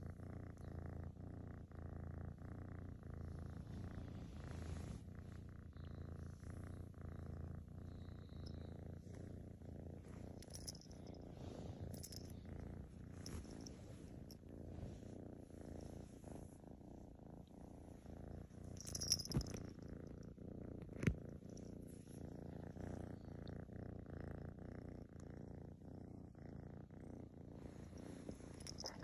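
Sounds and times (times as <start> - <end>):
kitten purring: 0.0 - 29.0.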